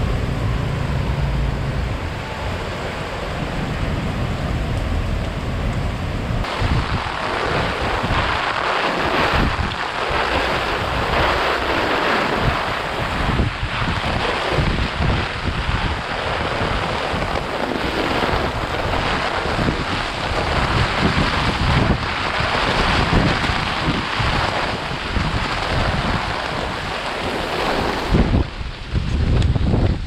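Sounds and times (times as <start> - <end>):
strong gusty wind: 0.0 - 30.0
wind buffeting microphone: 0.0 - 30.0.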